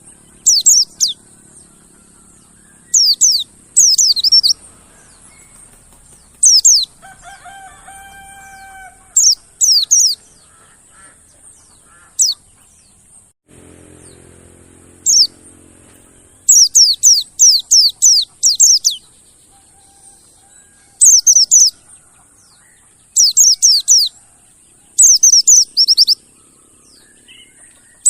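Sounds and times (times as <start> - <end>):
birds chirping sharply: 0.0 - 28.0.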